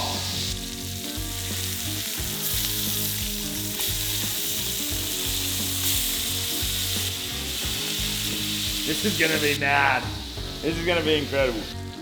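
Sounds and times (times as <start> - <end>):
burger patties sizzling: 0.0 - 12.0.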